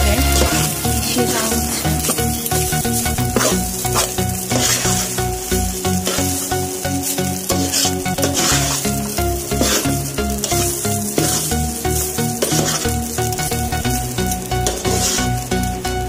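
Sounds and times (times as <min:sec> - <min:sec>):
background music: 0:00.0 - 0:16.0
sizzling: 0:00.0 - 0:16.0
spoon stirring rice in metal pot: 0:00.3 - 0:16.0.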